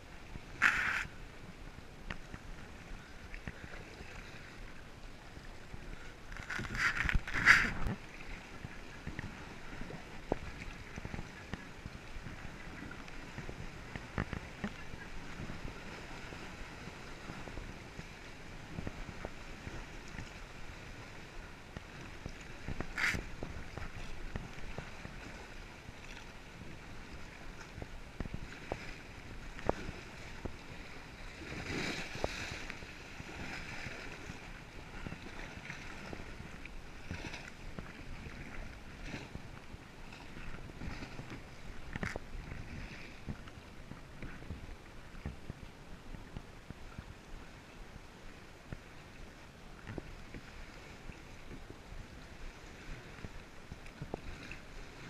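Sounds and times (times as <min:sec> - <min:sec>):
kayak paddle splashing: 0:00.0 - 0:55.0
water lapping against hull: 0:00.0 - 0:55.0.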